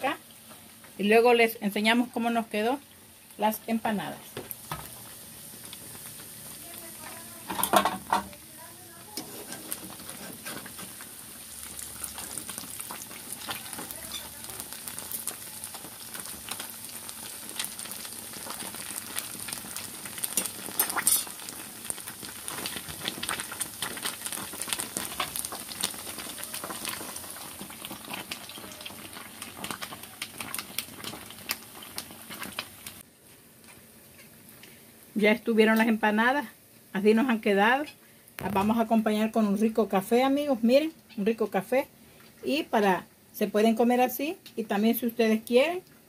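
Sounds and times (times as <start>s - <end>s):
deep-frying sizzle and pops: 0.0s - 43.0s.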